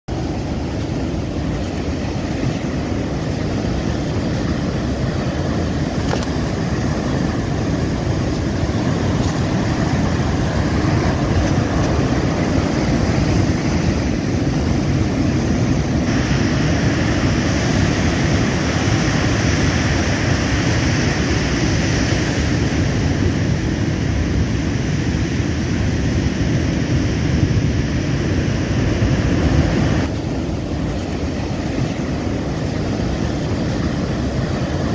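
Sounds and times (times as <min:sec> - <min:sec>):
heavy surf breaking on shore: 0:00.1 - 0:34.9.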